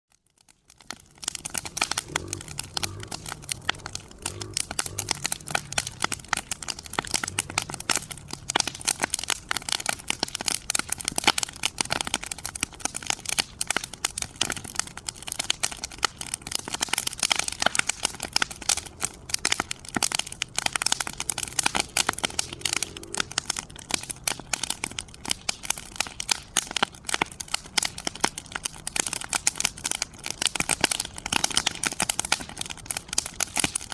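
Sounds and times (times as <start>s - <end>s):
small snaps and pops: 0.1s - 33.9s
wood fire crackling: 0.1s - 33.9s.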